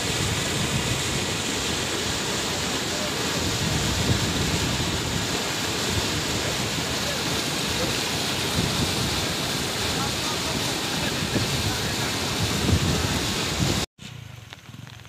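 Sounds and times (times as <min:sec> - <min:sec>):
floodwater rushing: 0:00.0 - 0:13.9
wind buffeting microphone: 0:00.0 - 0:13.9.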